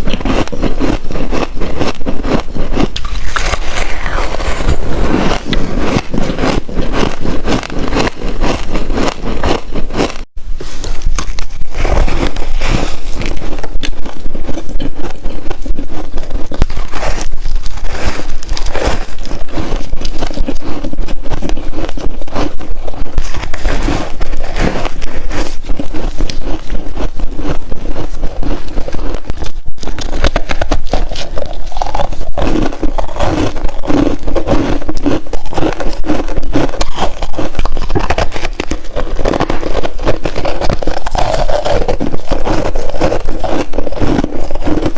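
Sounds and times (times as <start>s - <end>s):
frost being chewed crunching: 0.0s - 44.9s.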